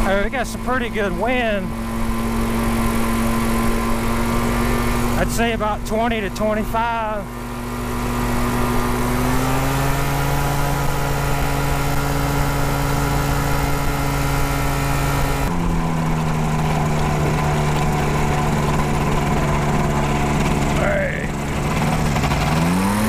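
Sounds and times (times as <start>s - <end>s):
gyroplane engine and propeller: 0.0s - 23.0s.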